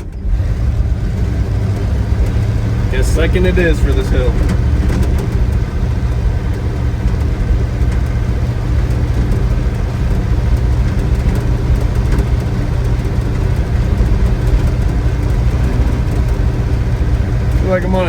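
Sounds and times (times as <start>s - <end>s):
truck engine droning: 0.0s - 18.0s.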